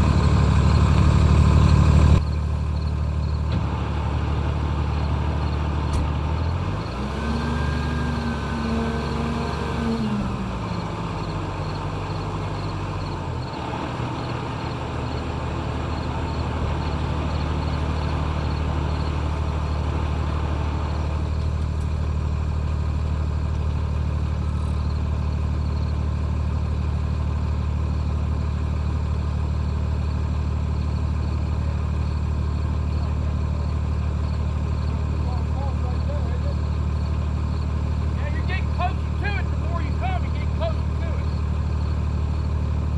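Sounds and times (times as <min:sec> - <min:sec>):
engine revving and idling: 0:00.0 - 0:42.9.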